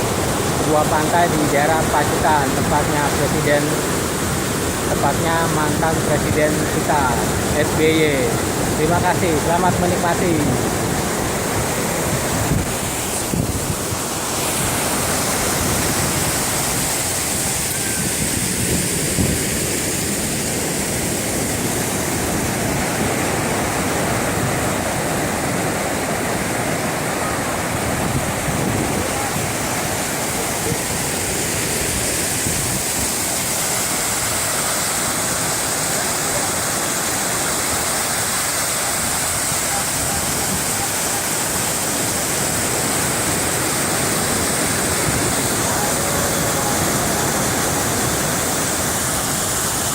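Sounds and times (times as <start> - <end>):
sea surf: 0.0 - 49.9
waterfall rushing: 0.0 - 49.9.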